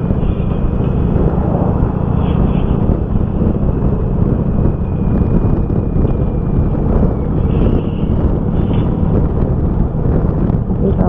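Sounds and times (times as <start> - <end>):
road noise: 0.0 - 11.0
wind blowing across microphone: 0.0 - 11.0.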